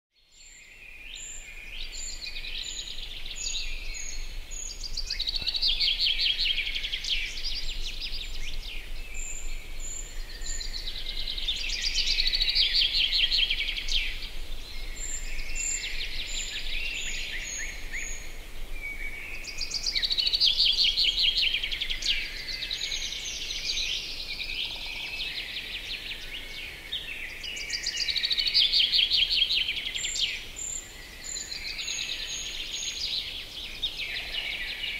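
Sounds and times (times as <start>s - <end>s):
songbirds chattering song: 0.2s - 34.9s.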